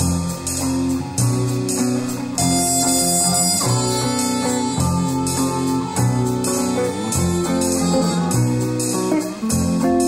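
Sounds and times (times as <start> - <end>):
instrumental ensemble chords: 0.0 - 10.0.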